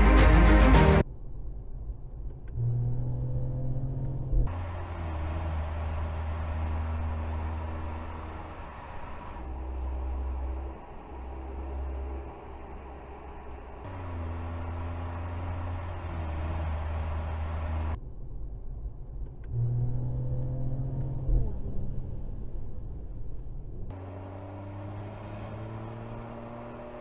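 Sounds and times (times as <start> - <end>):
car engine accelerating: 2.5 - 18.0, 19.4 - 27.0.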